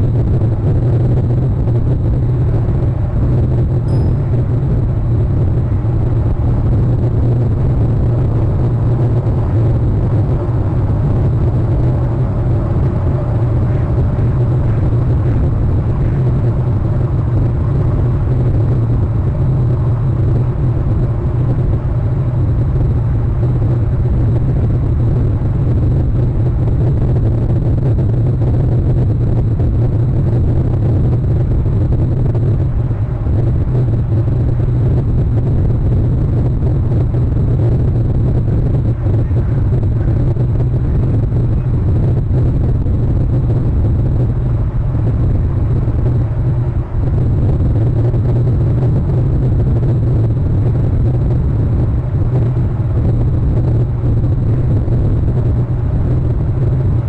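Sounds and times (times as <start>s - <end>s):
loud low rumble: 0.0s - 57.0s.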